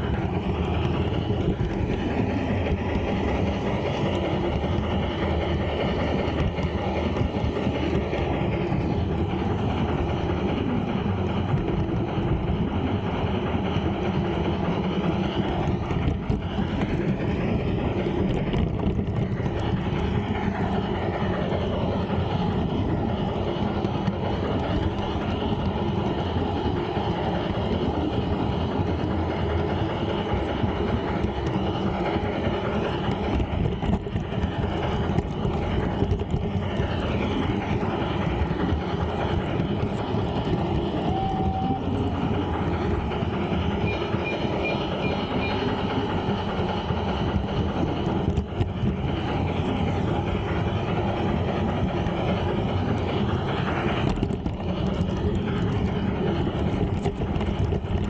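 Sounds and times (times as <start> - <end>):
drive motor and gears: 0.0 - 58.0
model train wheels rumbling on rails: 0.0 - 58.0
wheels clicking over rail joints: 0.0 - 58.0.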